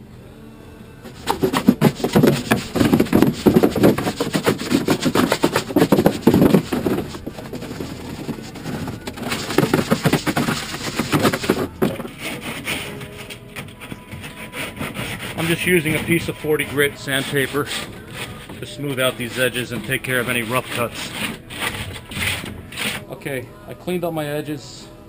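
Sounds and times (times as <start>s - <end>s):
scrubbing plastic tank: 1.0s - 23.0s.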